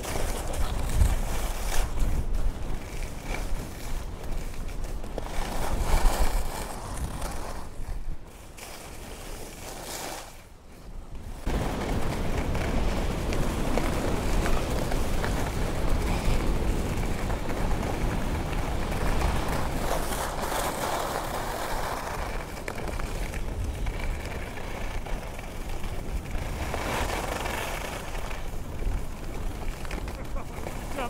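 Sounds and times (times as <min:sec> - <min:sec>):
wind buffeting microphone: 0:00.0 - 0:08.3, 0:10.9 - 0:31.0
skis rushing over snow: 0:00.0 - 0:31.0.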